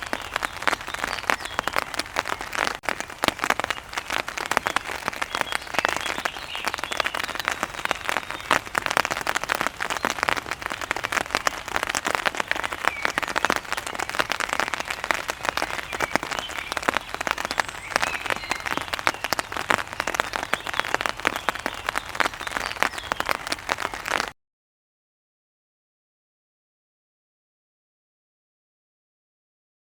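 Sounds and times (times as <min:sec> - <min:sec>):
rain pattering on an umbrella: 0:00.0 - 0:24.4.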